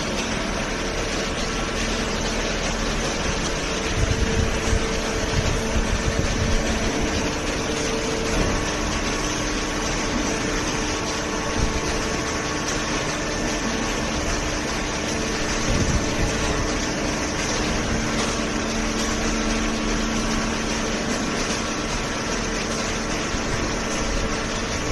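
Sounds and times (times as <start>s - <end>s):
baler motor humming: 0.0s - 24.9s.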